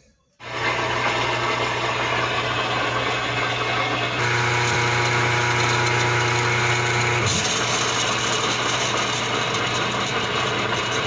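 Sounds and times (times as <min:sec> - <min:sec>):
washing machine motor hum: 0:00.4 - 0:11.0.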